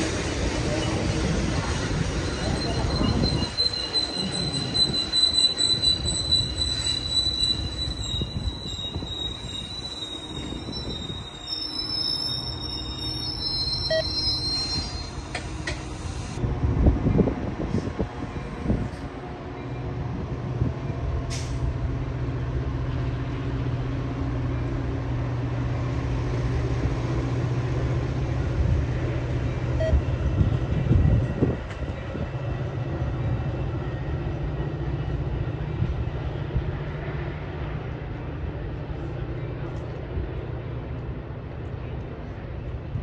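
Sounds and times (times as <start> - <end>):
train clanks: 0.0 - 11.8, 12.7 - 16.3, 17.0 - 43.0
diesel locomotive drone: 0.0 - 43.0
train wheels rumbling on rails: 0.0 - 43.0.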